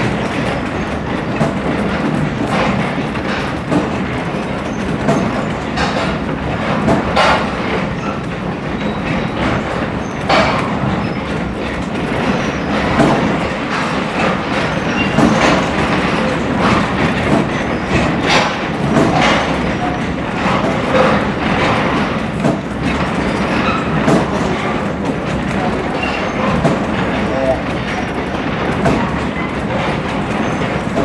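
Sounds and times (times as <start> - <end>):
rail joint clicks and knocks: 0.0 - 31.0
train wheels rumbling on rail: 0.0 - 31.0.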